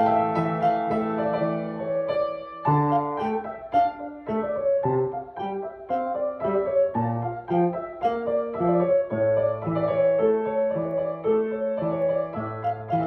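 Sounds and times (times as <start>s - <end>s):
upright piano melody: 0.0s - 13.0s.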